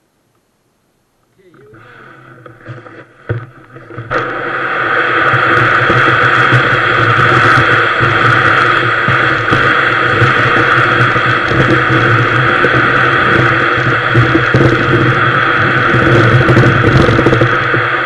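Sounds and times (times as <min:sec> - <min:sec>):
hull scraping over snow: 0:01.8 - 0:18.0.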